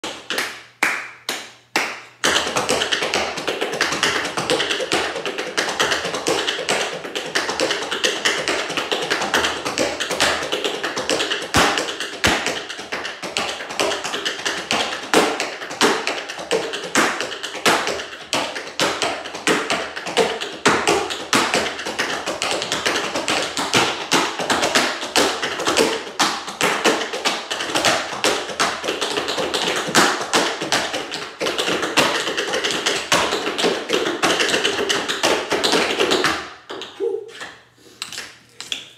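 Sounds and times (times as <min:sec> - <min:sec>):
tap shoes tapping on board: 0:01.3 - 0:38.9.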